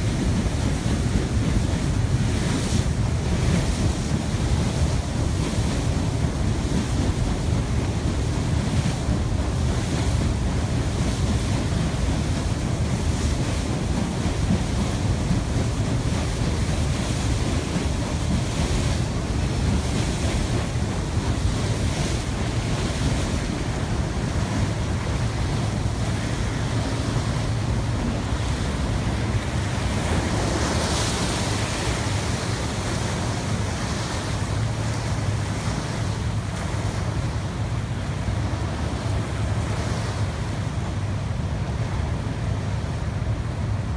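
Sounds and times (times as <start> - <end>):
water rushing along hull: 0.0 - 43.9.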